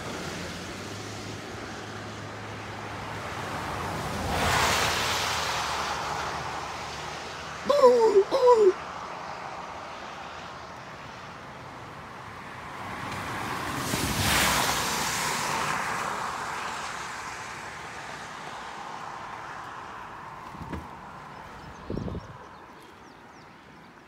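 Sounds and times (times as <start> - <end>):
car passing by: 0.0 - 7.6, 8.9 - 23.8.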